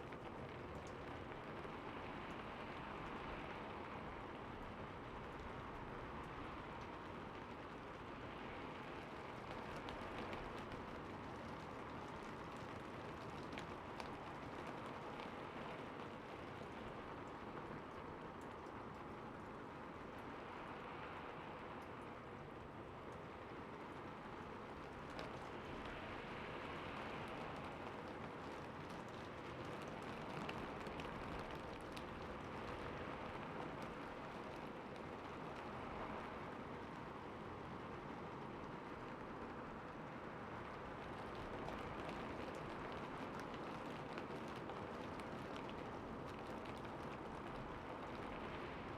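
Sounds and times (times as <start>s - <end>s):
rain falling on a rooftop: 0.0s - 48.9s.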